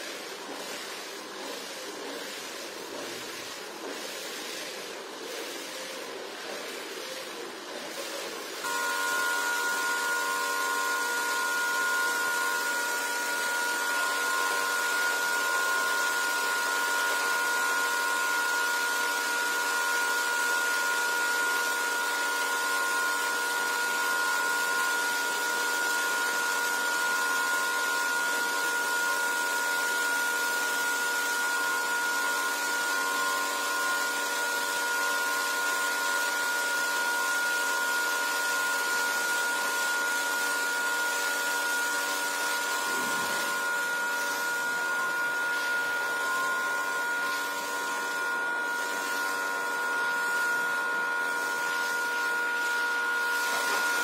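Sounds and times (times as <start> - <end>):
wet vacuum motor whining: 0.0 - 54.0.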